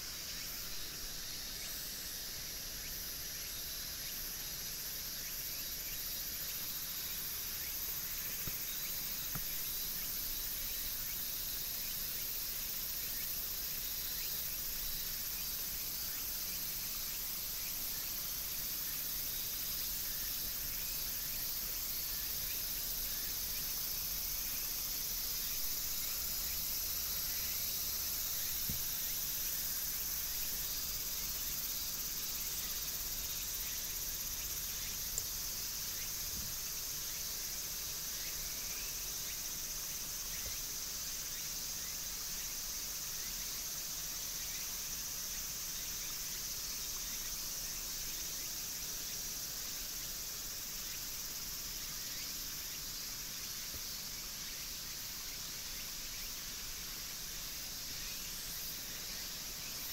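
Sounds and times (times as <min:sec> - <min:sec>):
faint scattered ticks: 0:00.0 - 0:59.9
high outdoor hiss: 0:00.0 - 0:59.9.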